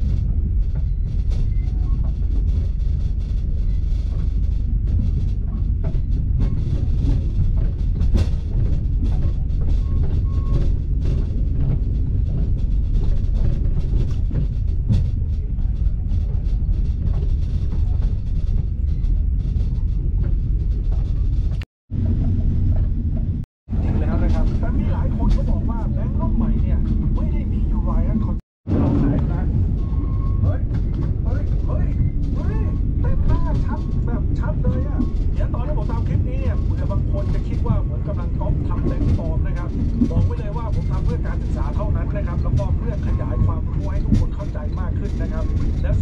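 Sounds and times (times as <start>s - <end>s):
train rumbling on rails: 0.0s - 46.0s.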